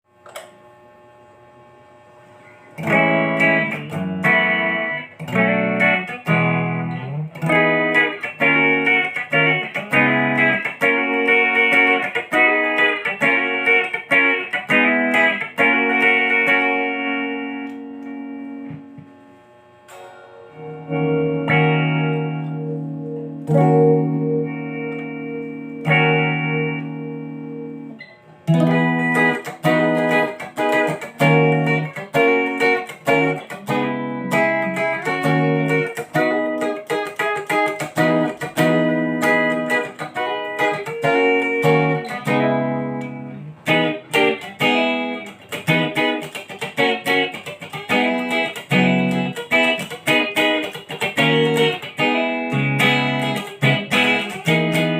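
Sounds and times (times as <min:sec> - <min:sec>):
electric guitar playing: 0:00.1 - 0:54.9.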